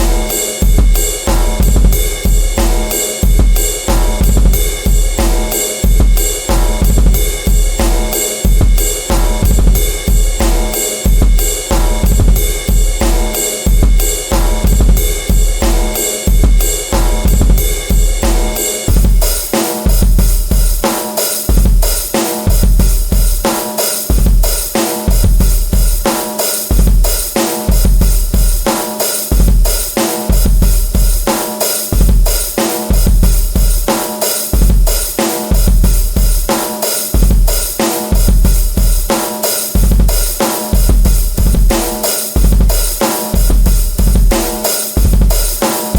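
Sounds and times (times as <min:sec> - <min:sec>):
bass drum thumping: 0:00.0 - 0:20.9, 0:21.5 - 0:23.5, 0:24.1 - 0:26.1, 0:26.7 - 0:28.7, 0:29.3 - 0:31.3, 0:32.0 - 0:34.0, 0:34.6 - 0:36.6, 0:37.2 - 0:39.2, 0:39.8 - 0:45.7
snare and cymbals: 0:00.0 - 0:45.9.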